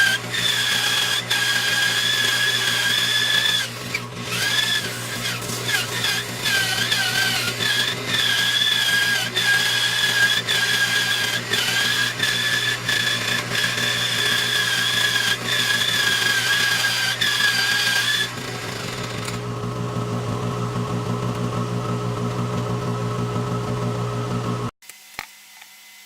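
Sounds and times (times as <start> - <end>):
bandsaw whine cutting wood: 0.0 - 24.7.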